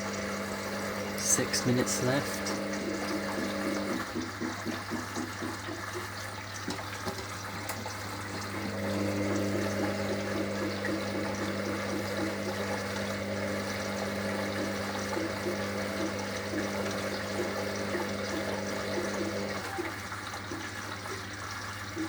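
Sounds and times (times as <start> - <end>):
water rushing into washing machine: 0.0 - 22.0.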